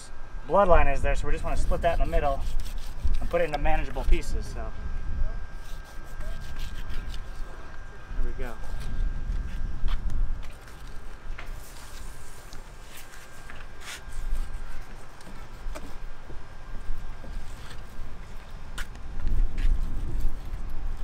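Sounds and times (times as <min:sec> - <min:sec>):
faint high hum: 0:00.0 - 0:21.0.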